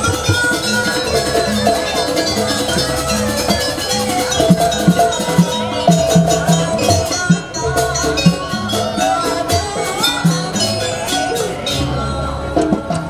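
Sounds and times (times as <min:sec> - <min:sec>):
gamelan music with drums: 0:00.0 - 0:13.0.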